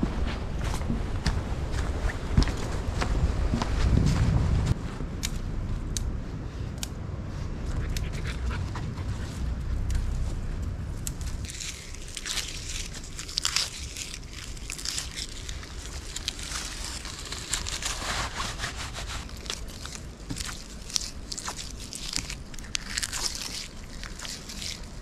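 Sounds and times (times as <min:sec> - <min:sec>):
twigs and bark crackling: 0:00.0 - 0:25.0.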